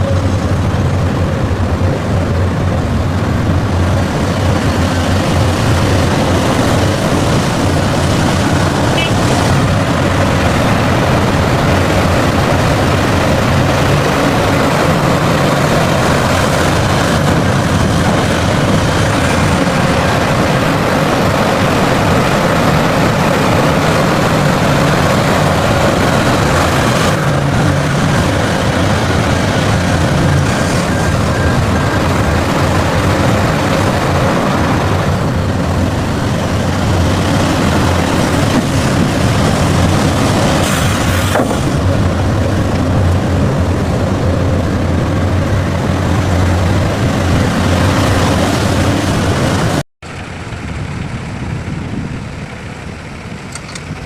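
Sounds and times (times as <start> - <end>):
heavy vehicle engines running: 0.0 - 54.0.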